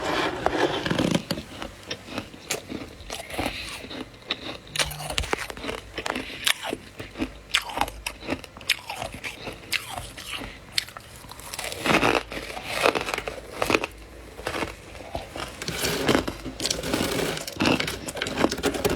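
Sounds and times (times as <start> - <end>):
frost being chewed crunching: 0.5 - 18.9.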